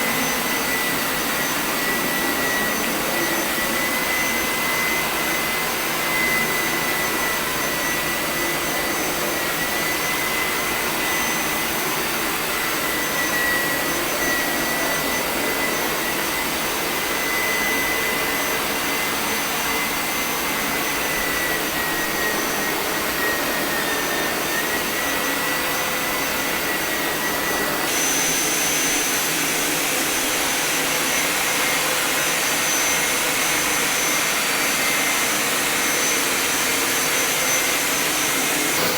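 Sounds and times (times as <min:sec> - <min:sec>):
carpet washing machine running: 0:00.0 - 0:38.9.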